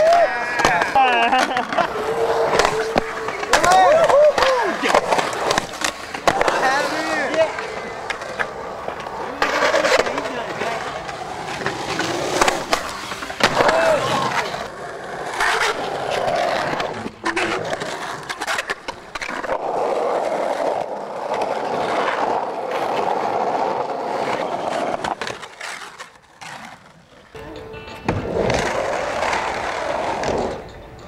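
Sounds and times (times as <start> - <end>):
skateboard clacking on ground: 0.0 - 31.0
skateboard wheels rolling on pavement: 0.0 - 31.0.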